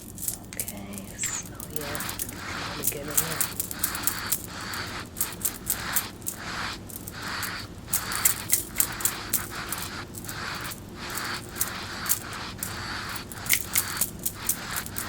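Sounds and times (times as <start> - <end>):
brush strokes through hair: 0.9 - 15.0.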